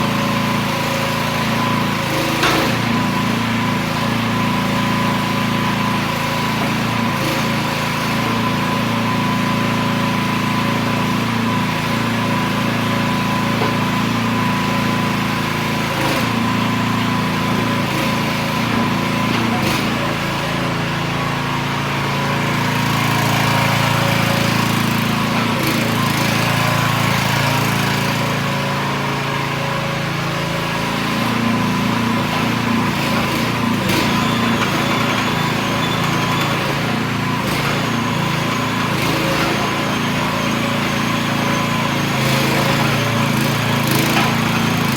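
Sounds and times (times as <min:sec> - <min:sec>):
small gas engine running: 0:00.0 - 0:44.9.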